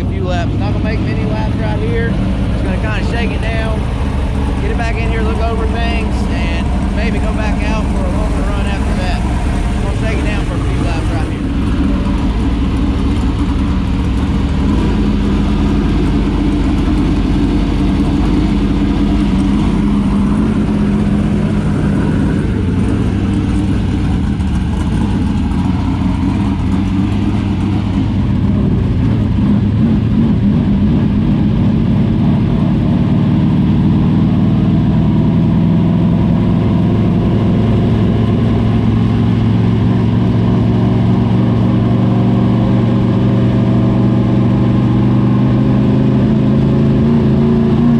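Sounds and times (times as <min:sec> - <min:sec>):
race car engine running: 0:00.0 - 0:47.9.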